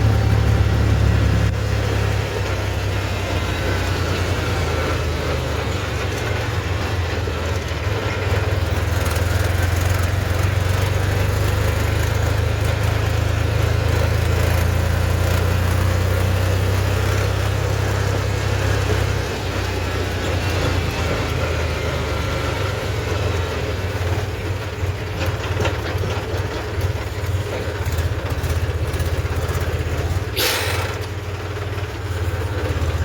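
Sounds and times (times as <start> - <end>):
tractor engine droning: 0.0 - 33.0.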